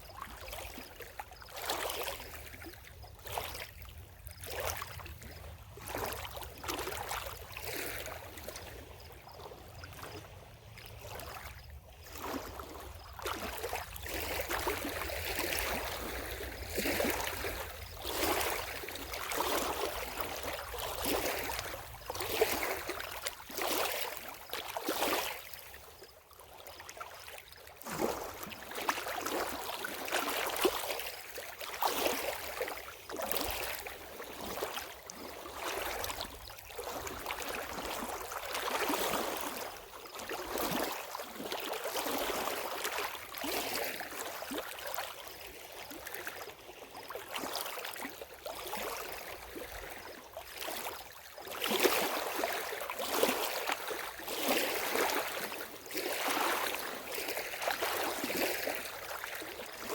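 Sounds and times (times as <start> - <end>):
water lapping in small waves: 0.0 - 59.9.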